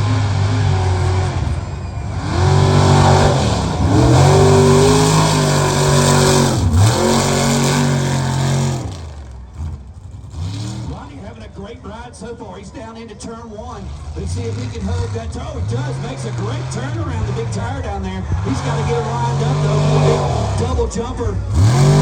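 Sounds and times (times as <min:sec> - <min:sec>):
truck engine revving hard: 0:00.0 - 0:11.4, 0:13.7 - 0:22.0.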